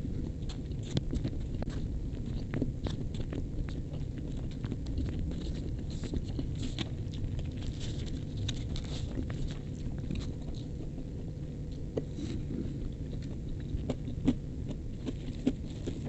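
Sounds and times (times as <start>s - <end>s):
chewing: 0.0s - 16.0s
steady low hum: 0.0s - 16.0s.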